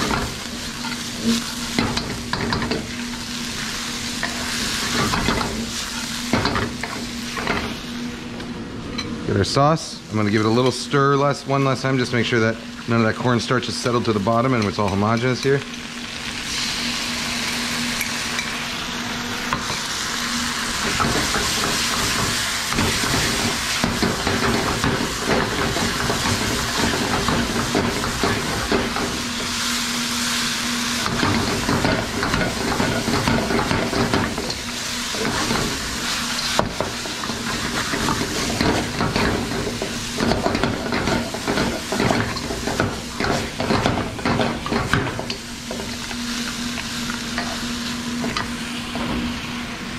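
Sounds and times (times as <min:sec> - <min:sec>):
sauce sizzling in a wok: 0:00.0 - 0:49.9.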